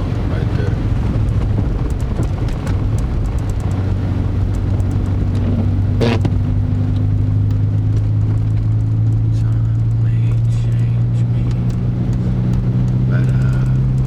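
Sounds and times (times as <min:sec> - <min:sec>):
car road noise drone: 0:00.0 - 0:14.0.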